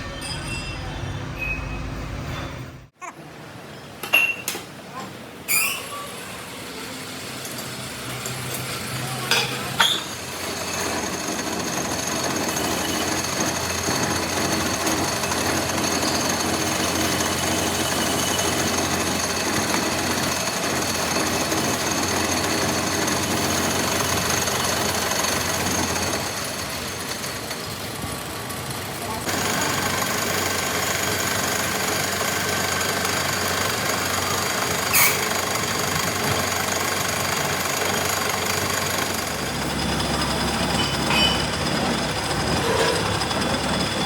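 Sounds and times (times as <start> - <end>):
metalworking machine rattling: 7.3 - 44.0.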